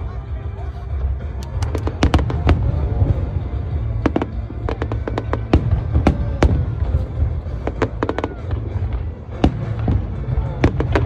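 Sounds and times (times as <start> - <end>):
deep rumble: 0.0 - 11.0
fireworks bangs and crackles: 0.0 - 11.0.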